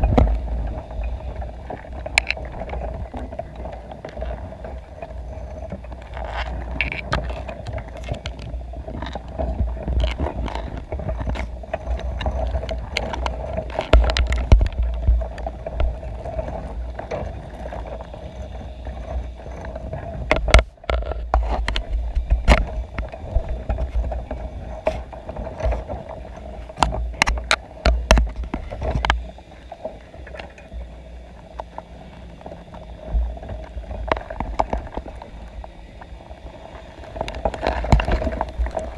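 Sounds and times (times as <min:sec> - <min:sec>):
crabs clicking and knocking: 0:00.0 - 0:38.9
underwater low rumble and hum: 0:00.0 - 0:38.9.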